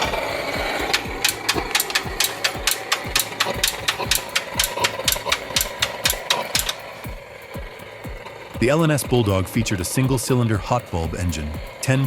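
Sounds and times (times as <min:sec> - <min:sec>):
engine knocking: 0:00.0 - 0:12.0.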